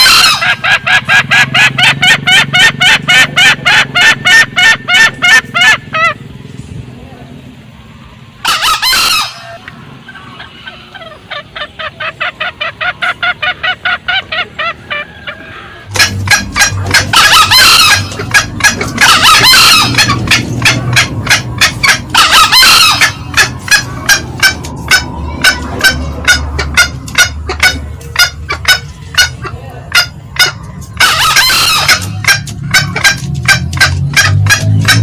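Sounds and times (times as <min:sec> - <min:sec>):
junglefowl cackling: 0:00.0 - 0:06.2, 0:08.4 - 0:35.0
junglefowl crowing: 0:00.0 - 0:06.2, 0:08.4 - 0:35.0.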